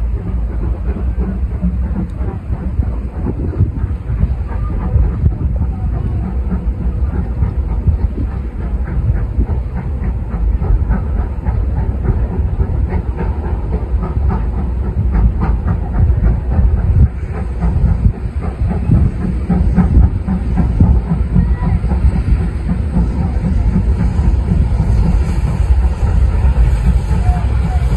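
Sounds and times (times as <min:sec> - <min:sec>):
steam locomotive rumble: 0:00.0 - 0:27.9.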